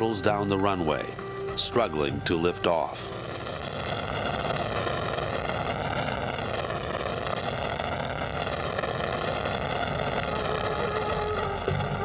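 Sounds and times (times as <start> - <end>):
helicopter turbine and rotor: 0.0 - 12.0.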